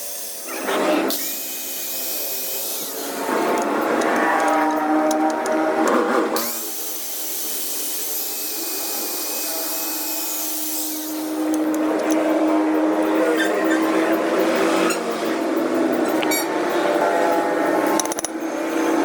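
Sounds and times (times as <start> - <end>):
power tool running: 0.0 - 19.0.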